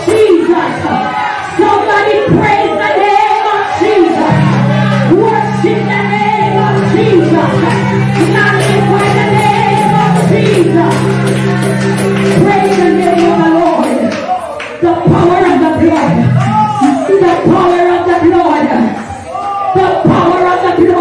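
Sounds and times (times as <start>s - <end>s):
woman singing into microphone: 0.0s - 16.4s, 19.8s - 21.0s.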